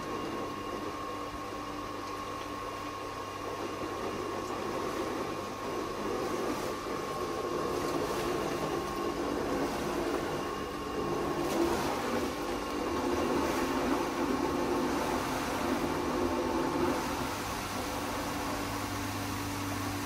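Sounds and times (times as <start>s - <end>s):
pool pump running: 0.0s - 20.0s
thin steady whine: 0.0s - 20.0s
water rushing through pipes: 0.0s - 20.0s.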